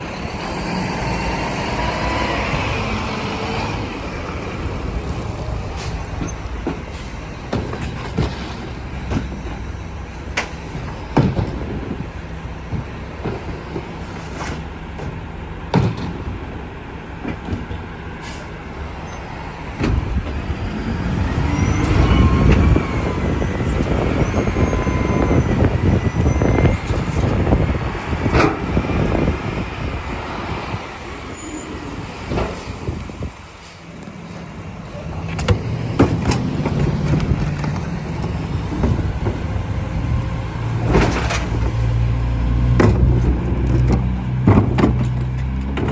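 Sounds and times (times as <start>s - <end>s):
garbage truck engine running: 0.0s - 45.9s.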